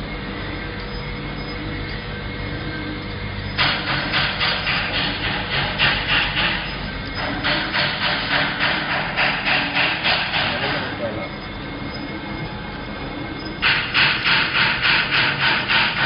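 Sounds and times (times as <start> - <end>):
electric motor hum: 0.0 - 16.0
rhythmic rasping scrape: 0.0 - 16.0.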